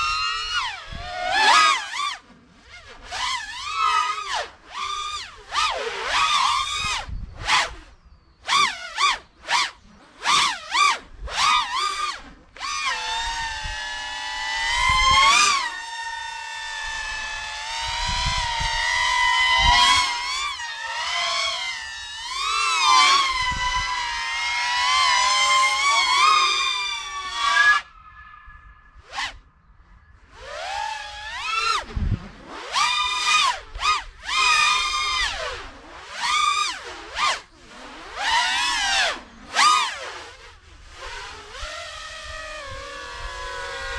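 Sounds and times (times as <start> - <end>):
quadcopter motors whining: 0.0 - 29.5, 30.1 - 43.9.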